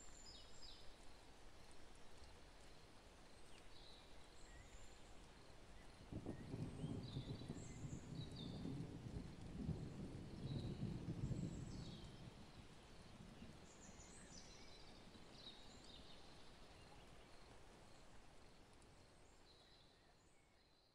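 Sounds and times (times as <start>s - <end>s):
faint background noise: 0.0s - 20.9s.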